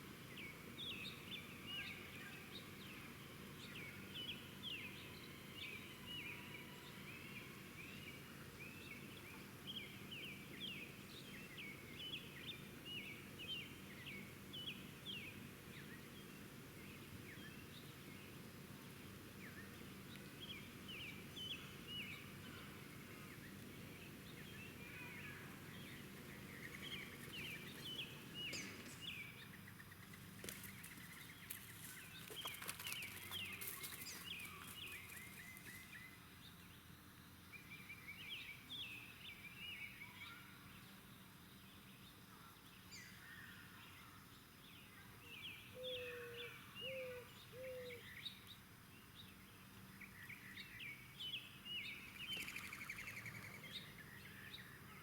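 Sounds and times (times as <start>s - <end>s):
faint steady hum: 0.0s - 55.0s
small birds chirping: 0.3s - 36.9s, 44.6s - 55.0s.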